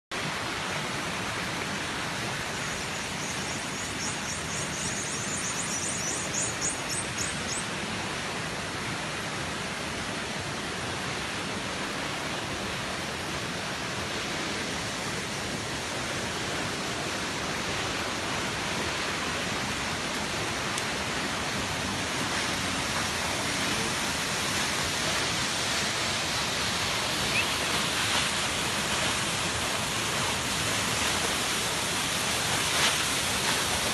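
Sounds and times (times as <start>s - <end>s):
waterfall roaring: 0.2s - 33.9s.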